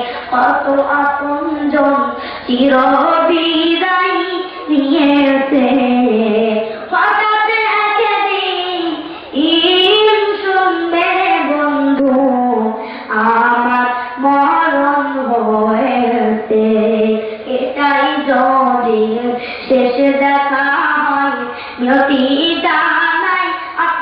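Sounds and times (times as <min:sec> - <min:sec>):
child singing: 0:00.0 - 0:24.0.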